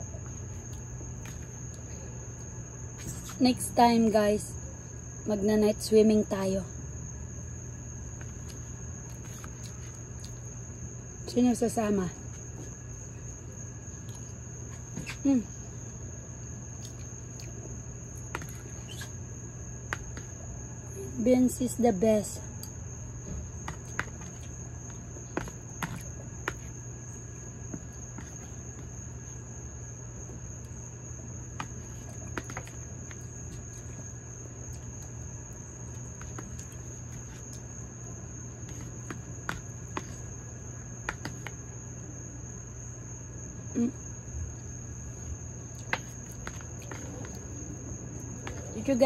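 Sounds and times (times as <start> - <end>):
insects chirring: 0.0 - 49.0.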